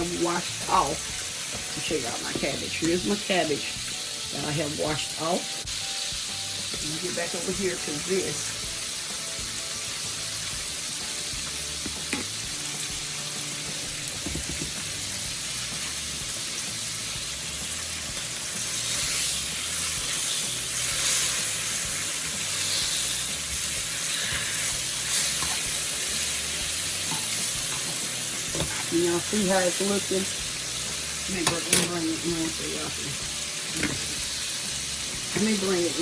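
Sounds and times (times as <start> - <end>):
food sizzling in hot grease: 0.0 - 36.0.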